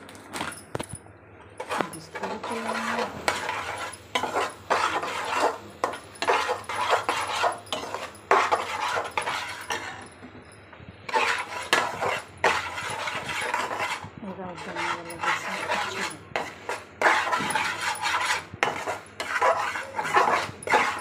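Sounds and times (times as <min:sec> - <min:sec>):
metal spatula scraping a pan: 0:01.6 - 0:10.0, 0:11.1 - 0:21.0.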